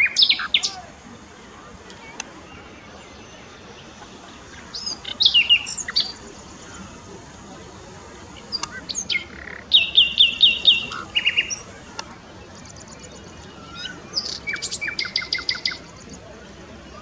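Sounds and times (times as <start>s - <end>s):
small birds calling: 0.0s - 17.0s.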